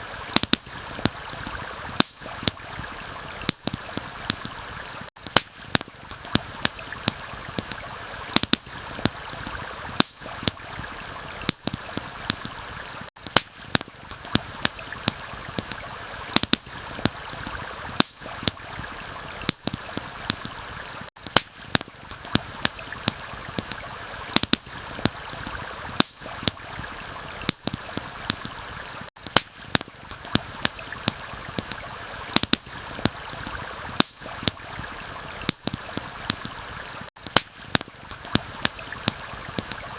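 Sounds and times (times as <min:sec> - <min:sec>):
campfire crackling: 0:00.0 - 0:39.9
stream flowing: 0:00.0 - 0:39.9.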